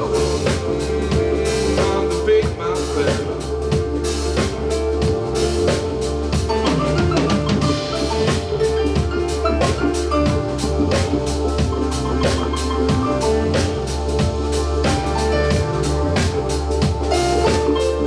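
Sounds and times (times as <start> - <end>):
drum kit beat: 0.0 - 18.0
live band playing: 0.0 - 18.0.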